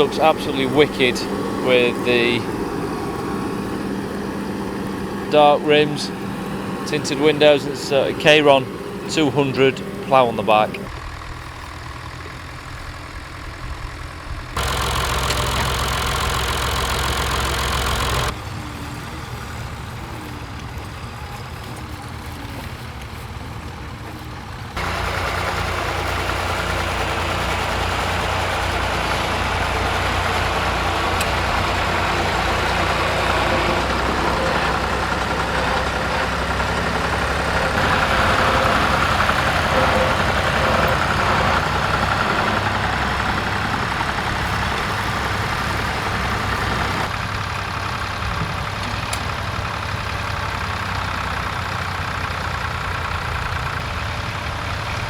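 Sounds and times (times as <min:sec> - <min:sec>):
tractor engines running: 0:00.0 - 0:55.0.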